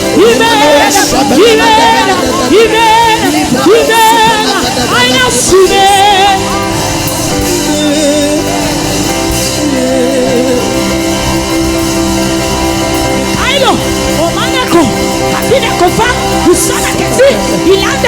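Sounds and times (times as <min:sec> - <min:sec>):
held gospel chords: 0:00.0 - 0:18.0
person singing with vibrato: 0:00.0 - 0:18.0.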